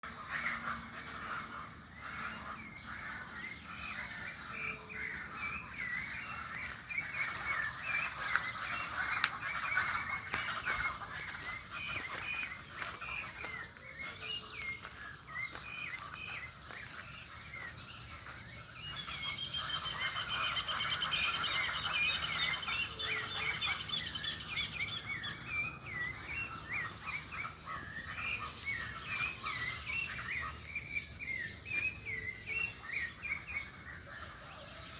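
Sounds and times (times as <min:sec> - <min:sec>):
many birds chirping: 0:00.0 - 0:34.9.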